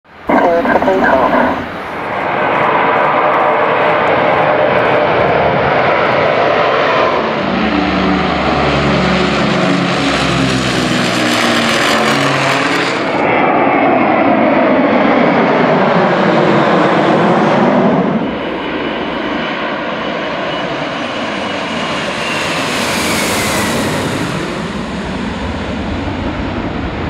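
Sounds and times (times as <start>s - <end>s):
jet engine noise: 0.1s - 27.0s
propeller airliner passing: 0.1s - 27.0s.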